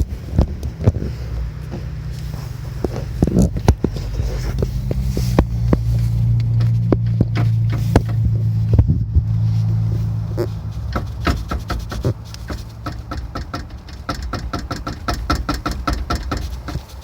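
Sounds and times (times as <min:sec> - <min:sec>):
car engine idling: 0:00.0 - 0:17.0
metallic knocking: 0:02.8 - 0:17.0.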